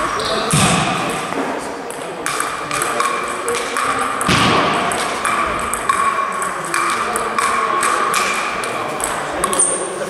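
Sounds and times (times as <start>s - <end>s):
table tennis ball knocking: 0.2s - 9.7s.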